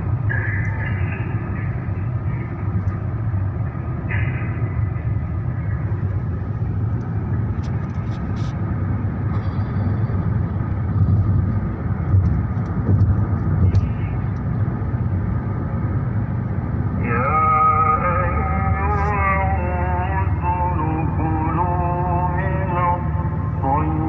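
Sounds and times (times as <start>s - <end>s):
vehicle driving low rumble: 0.0s - 24.0s.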